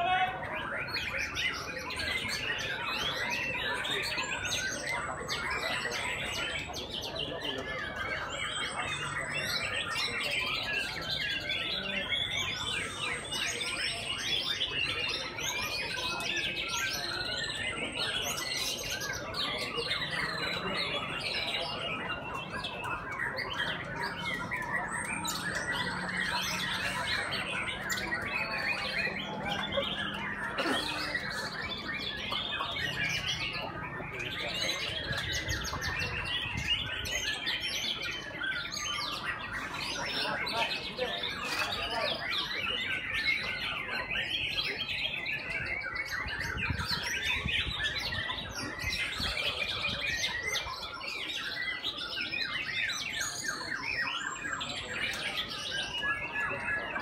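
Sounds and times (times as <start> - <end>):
songbirds chorus of whistles: 0.0 - 57.0.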